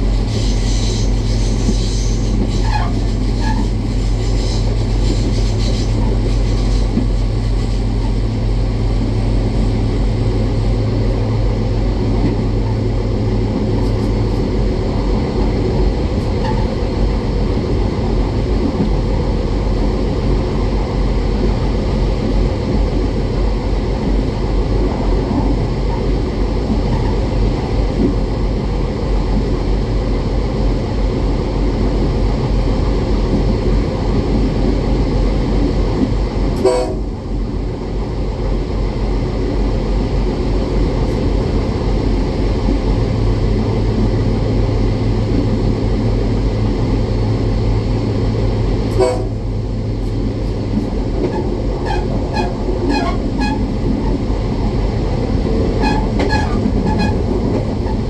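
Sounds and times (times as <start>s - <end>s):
train rumbling along track: 0.0s - 58.0s.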